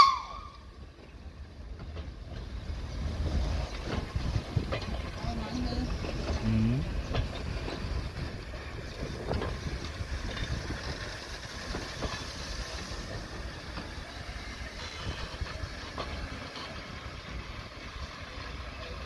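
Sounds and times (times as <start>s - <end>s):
rumble of wheels on rail: 0.0s - 19.0s
wheels clicking over rail joints: 0.0s - 19.0s.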